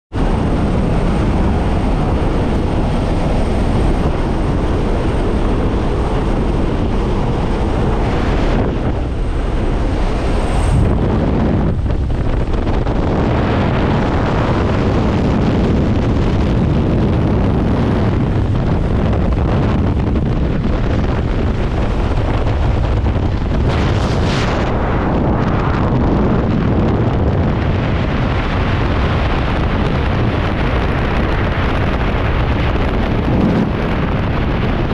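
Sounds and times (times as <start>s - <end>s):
airplane cabin roar: 0.1s - 34.9s
rushing air: 0.1s - 34.9s
wind over microphone: 0.1s - 34.9s.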